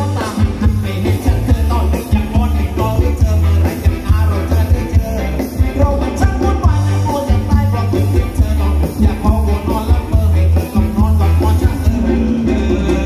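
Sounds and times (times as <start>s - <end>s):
live band dance music: 0.0s - 13.0s
person singing: 0.0s - 13.0s
pulsing bass: 0.0s - 13.0s.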